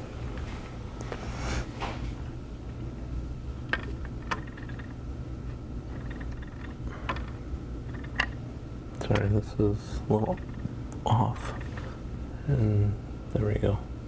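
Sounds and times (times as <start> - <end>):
low hum of bench equipment: 0.0 - 14.0.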